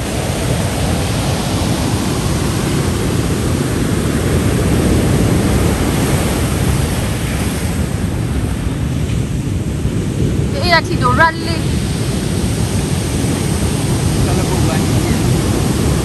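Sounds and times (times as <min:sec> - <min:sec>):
surf breaking on pebble beach: 0:00.0 - 0:16.0.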